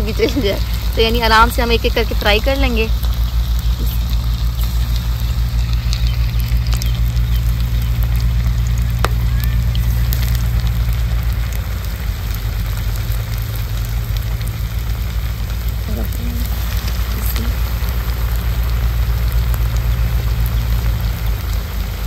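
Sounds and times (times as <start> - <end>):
deep-frying sizzle: 0.0 - 22.0
loud low rumble: 0.0 - 22.0
oil crackling and popping: 0.0 - 22.0.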